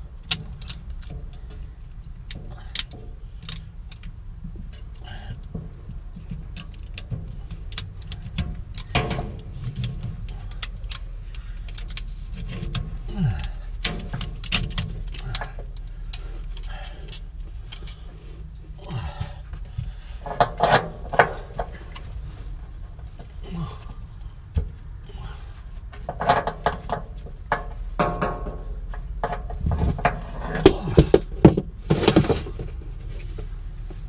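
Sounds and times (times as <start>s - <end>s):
ratchet strap clicking and clanking: 0.0s - 32.7s
steady low rumble: 0.0s - 34.0s.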